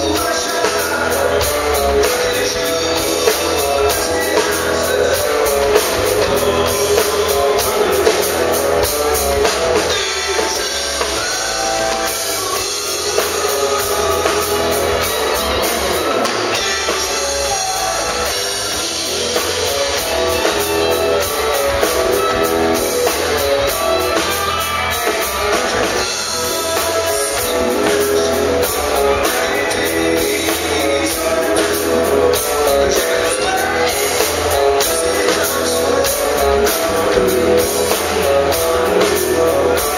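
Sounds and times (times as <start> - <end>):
drum kit beat: 0.0 - 39.9
electric bass: 0.0 - 39.9
electric guitar: 0.0 - 39.9
man singing: 0.0 - 39.9.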